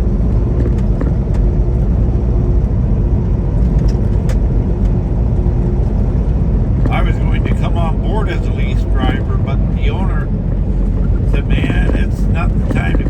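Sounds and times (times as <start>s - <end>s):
diesel engine rumble: 0.0s - 13.0s
road noise: 0.0s - 13.0s
steady hum: 0.0s - 13.0s.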